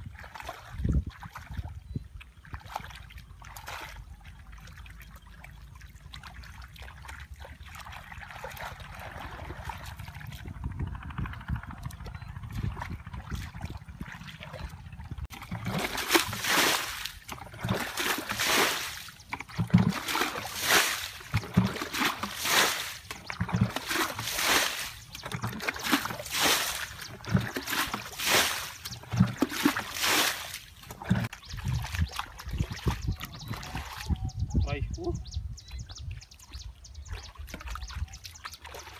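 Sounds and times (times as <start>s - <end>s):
splashing in shallow muddy water: 0.0s - 34.4s, 36.0s - 38.9s.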